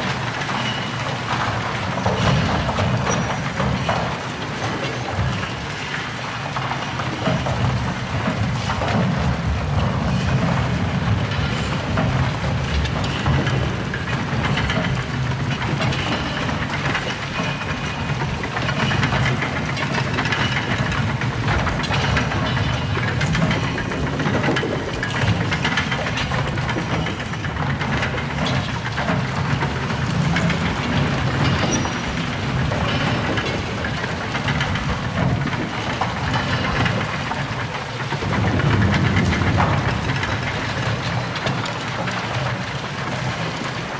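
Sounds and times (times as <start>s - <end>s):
roller coaster rumbling and rattling: 0.0s - 43.9s.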